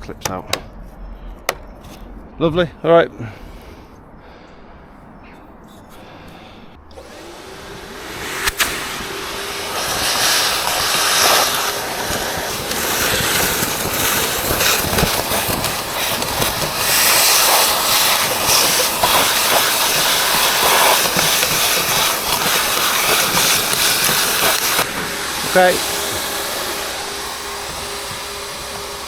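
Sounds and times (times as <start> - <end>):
gutter vacuum air rush: 0.0 - 2.4, 3.0 - 29.0.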